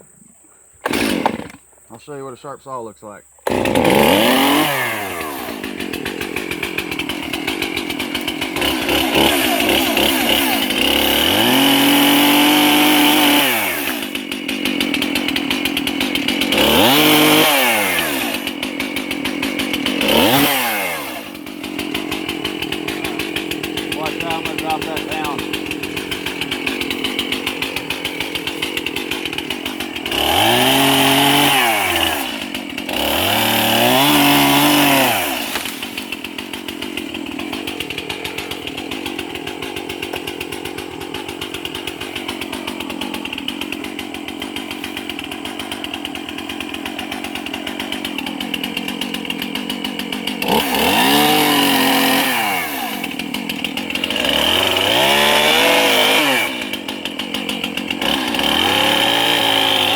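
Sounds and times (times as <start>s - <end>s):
chainsaw idling and revving: 0.8s - 2.2s, 3.4s - 59.9s.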